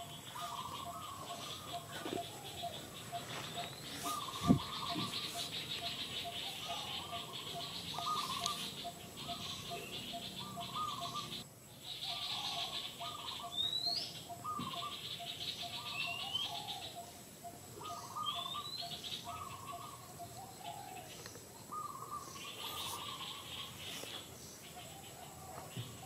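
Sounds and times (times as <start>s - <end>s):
birds calling: 0.0s - 26.0s
high insect trill: 0.0s - 26.0s.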